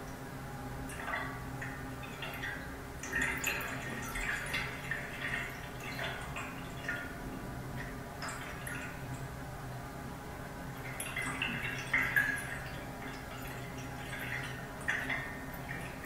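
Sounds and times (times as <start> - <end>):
water gurgling in a pipe: 0.8 - 9.4, 10.7 - 16.0.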